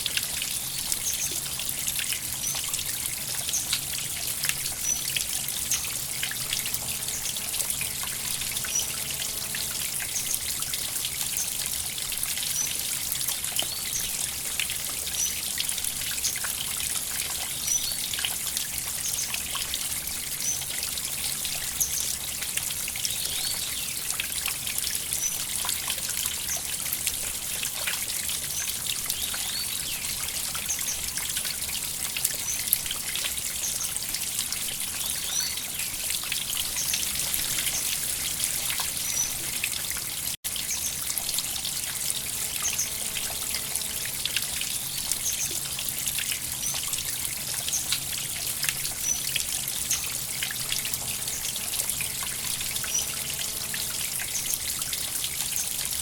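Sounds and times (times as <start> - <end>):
river water trickling and splashing: 0.0 - 56.0.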